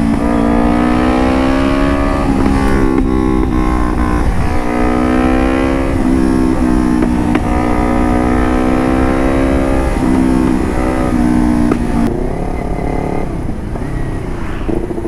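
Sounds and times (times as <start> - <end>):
low wind rumble: 0.0 - 15.0
motorcycle accelerating: 0.0 - 15.0.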